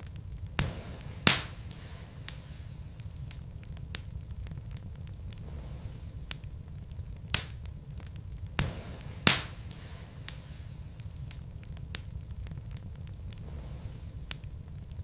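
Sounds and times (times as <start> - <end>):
low rumble: 0.0 - 15.0
wood fire crackling and popping: 0.0 - 15.0.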